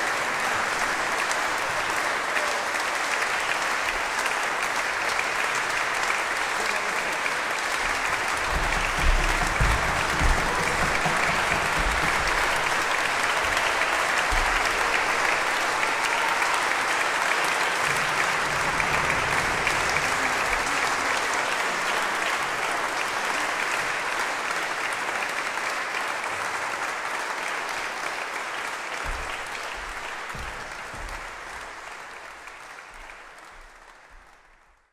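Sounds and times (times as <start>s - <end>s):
audience applauding: 0.0s - 34.9s.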